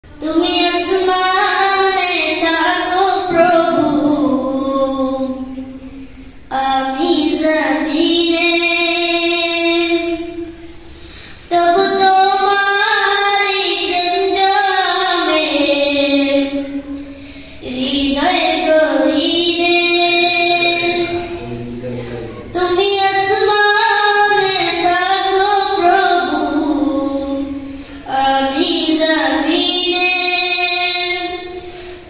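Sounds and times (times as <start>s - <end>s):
boy singing: 0.1s - 5.8s, 6.5s - 10.6s, 11.5s - 32.0s.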